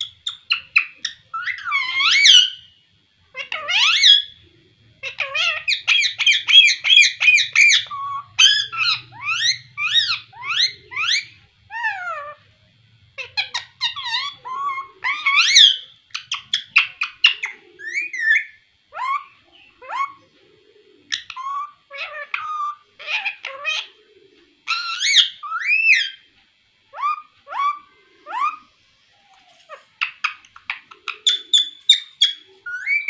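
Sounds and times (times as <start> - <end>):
parakeet chirping and squawking: 0.0 - 2.7, 3.3 - 4.4, 5.0 - 12.5, 13.2 - 20.3, 21.1 - 24.0, 24.6 - 26.3, 26.9 - 33.0.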